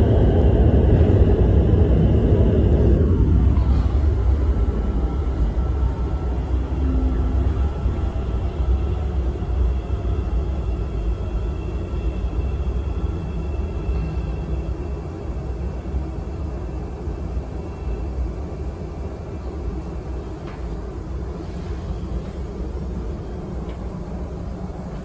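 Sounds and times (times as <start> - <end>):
train rumbling through tunnel: 0.0 - 25.0.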